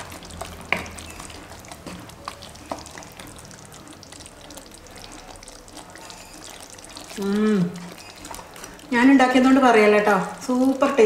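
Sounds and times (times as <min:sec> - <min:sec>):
curry sizzling and bubbling in a pan: 0:00.0 - 0:11.0.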